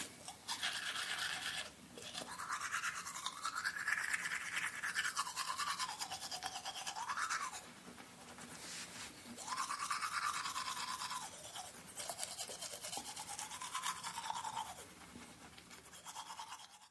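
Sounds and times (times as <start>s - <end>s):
toothbrush scrubbing teeth: 0.0s - 16.9s.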